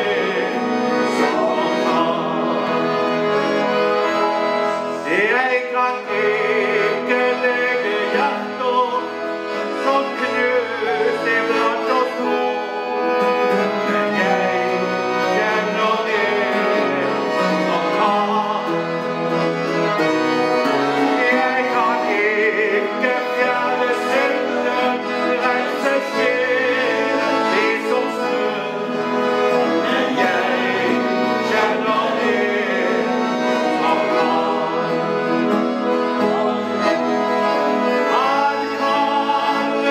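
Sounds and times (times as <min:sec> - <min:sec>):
men singing: 0:00.0 - 0:03.4, 0:04.0 - 0:19.7, 0:20.6 - 0:39.9
acoustic guitar: 0:00.0 - 0:39.9
button accordion playing gospel song: 0:00.0 - 0:39.9.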